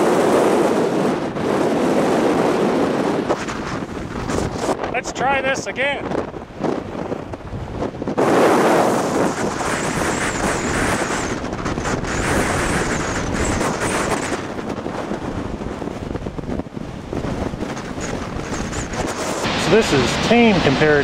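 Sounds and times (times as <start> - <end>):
storm wind on microphone: 0.0 - 21.0.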